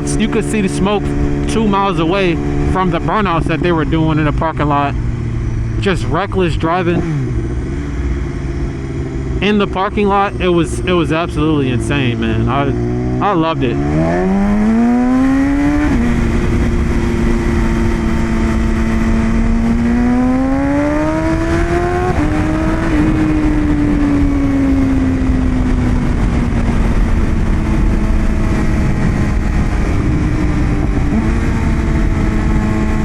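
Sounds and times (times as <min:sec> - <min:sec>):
motorcycle engine revving: 0:00.0 - 0:33.0
wind rush: 0:00.0 - 0:33.0.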